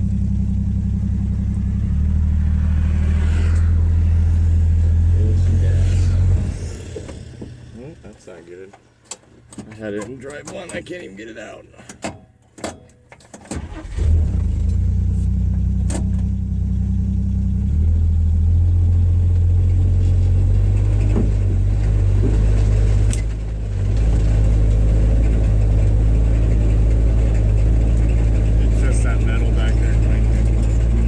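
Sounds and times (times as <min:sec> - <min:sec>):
car engine starting: 0:00.0 - 0:11.4, 0:13.0 - 0:31.0
engine low rumble: 0:00.0 - 0:11.8, 0:13.6 - 0:31.0.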